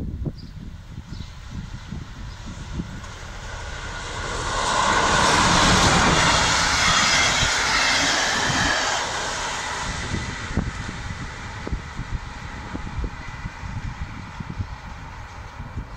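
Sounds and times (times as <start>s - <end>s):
engine whine: 0.0s - 15.9s
wind buffeting microphone: 0.0s - 15.9s
diesel locomotive passing: 0.6s - 15.9s.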